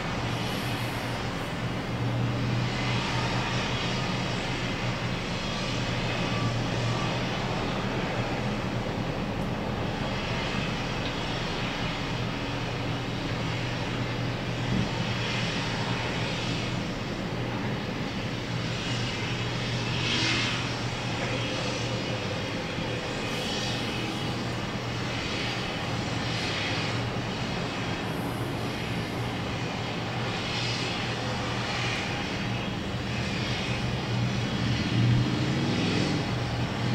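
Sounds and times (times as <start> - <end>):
construction machinery droning: 0.0 - 36.9.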